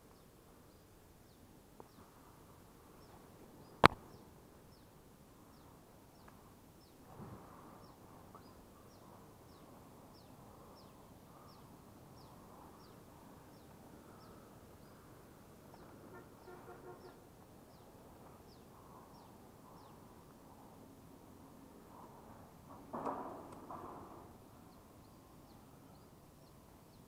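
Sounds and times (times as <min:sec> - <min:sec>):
faint woodland ambience: 0:00.0 - 0:27.0.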